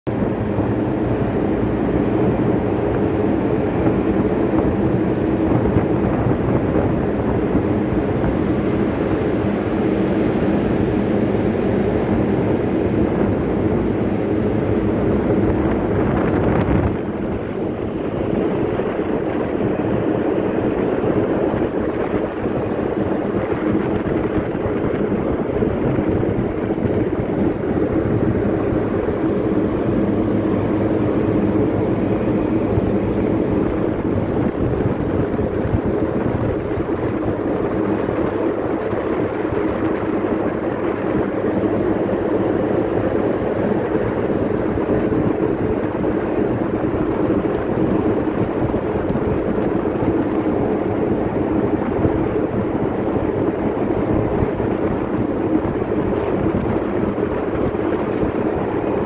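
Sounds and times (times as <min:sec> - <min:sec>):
ship machinery drone: 0:00.1 - 0:59.0
wind on microphone: 0:00.1 - 0:59.0.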